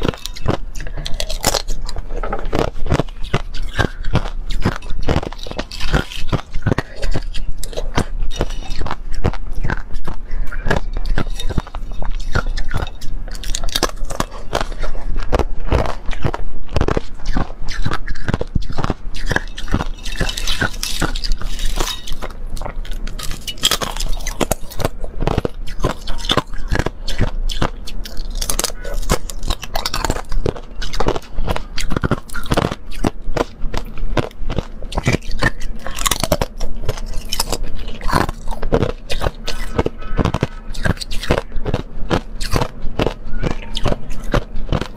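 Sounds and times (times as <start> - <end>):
ice being bitten and chewed: 0.0 - 44.9.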